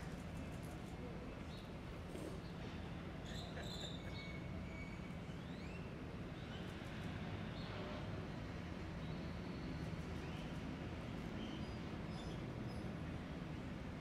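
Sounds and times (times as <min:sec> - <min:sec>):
steady low street rumble: 0:00.0 - 0:14.0.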